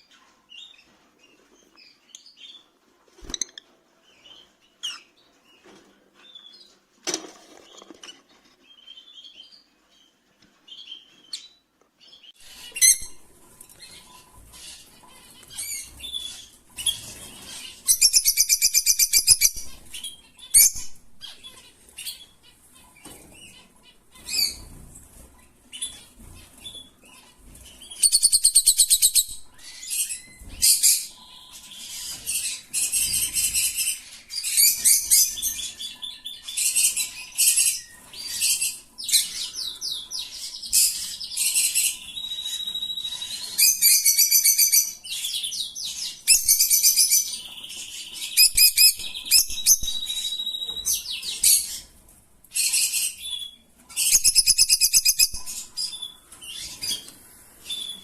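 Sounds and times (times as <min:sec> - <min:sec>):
lovebirds chirping: 0:00.0 - 0:06.8, 0:07.6 - 0:58.0.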